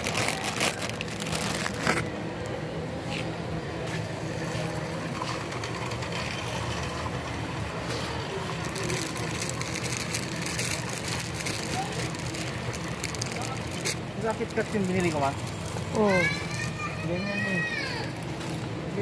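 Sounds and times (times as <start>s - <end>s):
store background hum: 0.0s - 19.0s.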